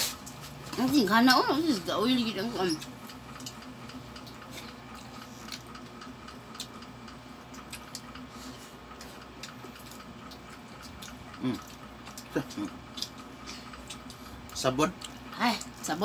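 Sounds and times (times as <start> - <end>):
faint chewing: 2.7 - 15.9.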